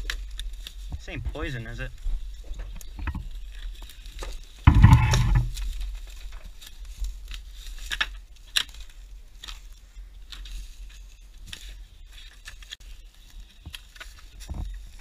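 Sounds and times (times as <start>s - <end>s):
footsteps through dry brush: 0.0s - 15.0s
twigs crackling and snapping: 0.0s - 15.0s.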